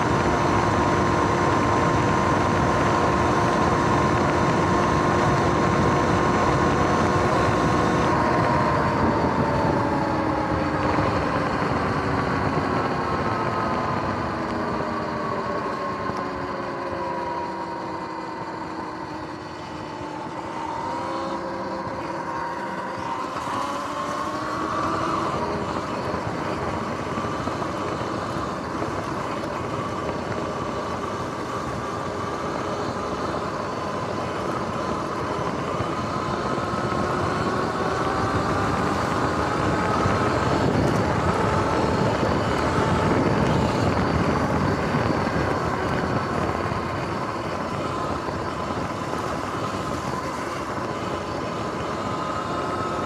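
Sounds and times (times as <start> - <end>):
electric motor whine: 0.0 - 53.0
wind and tyre noise: 0.0 - 53.0.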